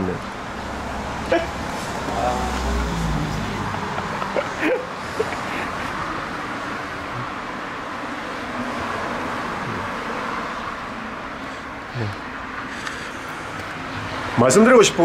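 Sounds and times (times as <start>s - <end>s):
car road noise: 0.0s - 15.0s.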